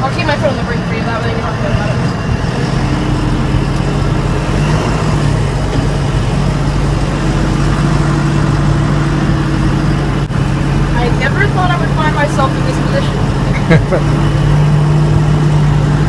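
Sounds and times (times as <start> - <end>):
diesel engine low hum: 0.0 - 16.0.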